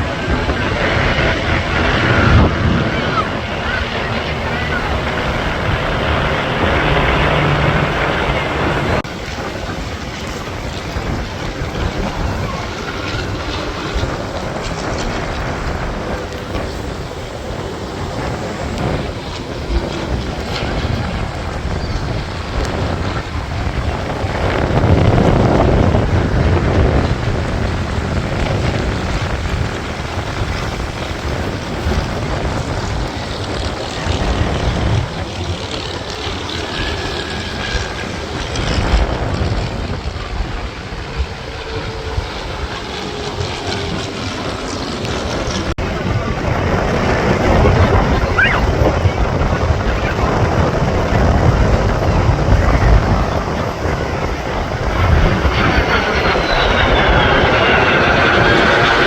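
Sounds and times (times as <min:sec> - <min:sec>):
plane flying past: 0:00.0 - 0:59.0
wind buffeting microphone: 0:00.0 - 0:59.0.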